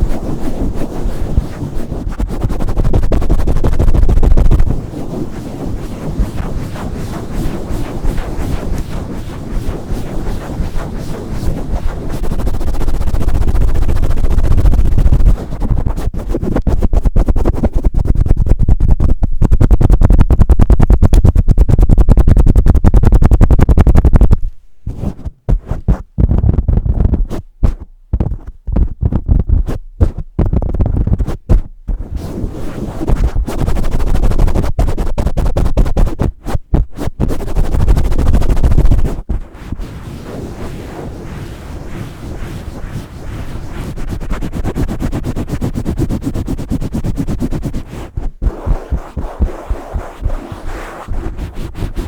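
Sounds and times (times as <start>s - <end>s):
rubbing and scratching on microphone: 0.0s - 52.0s.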